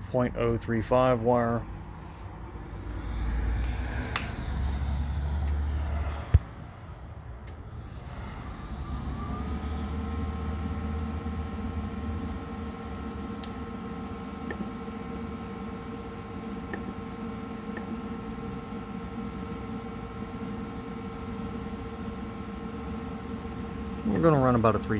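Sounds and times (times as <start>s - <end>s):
cooling fan humming: 0.0s - 24.9s.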